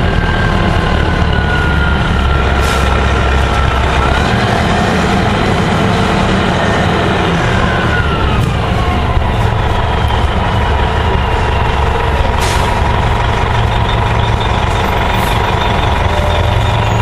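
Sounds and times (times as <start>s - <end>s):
bus diesel engine running: 0.0s - 17.0s
engine whine: 0.0s - 17.0s.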